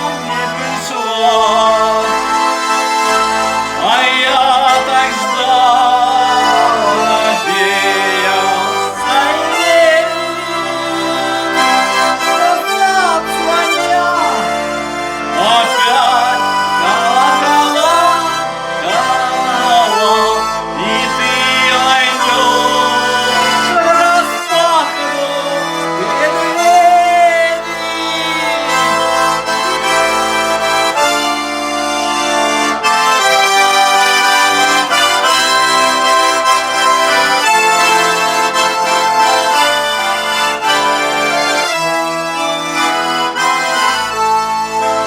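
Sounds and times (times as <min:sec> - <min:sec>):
button accordion playing tune: 0:00.0 - 0:45.0.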